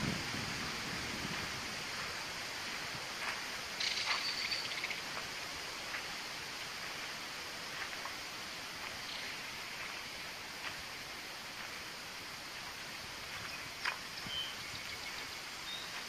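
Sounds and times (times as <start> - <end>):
steady swamp hiss: 0.0 - 16.0.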